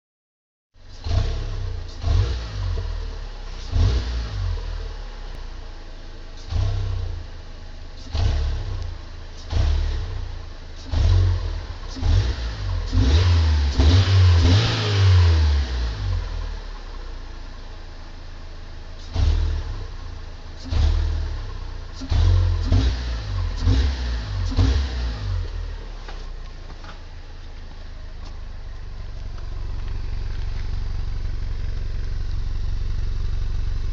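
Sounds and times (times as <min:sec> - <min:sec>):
car engine idling and revving: 0:00.8 - 0:33.9.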